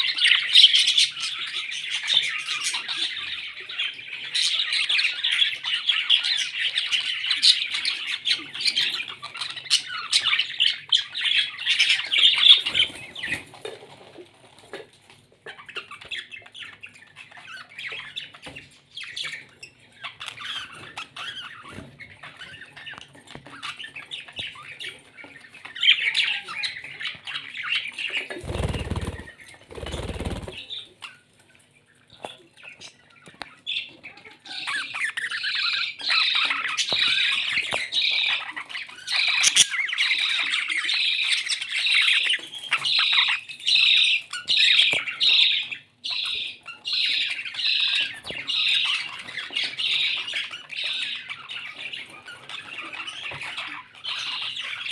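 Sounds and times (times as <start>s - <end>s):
parrots chattering and squawking: 0.0s - 54.9s.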